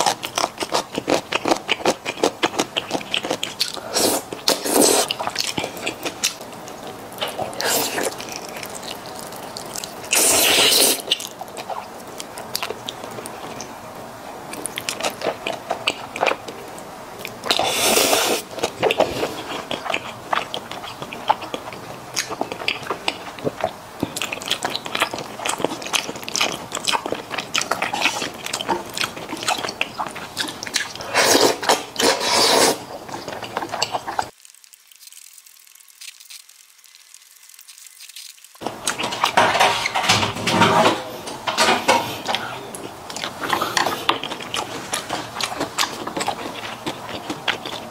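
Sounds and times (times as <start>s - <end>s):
wet chewing and lip-smacking: 0.0s - 13.7s, 17.2s - 39.4s, 42.8s - 47.9s.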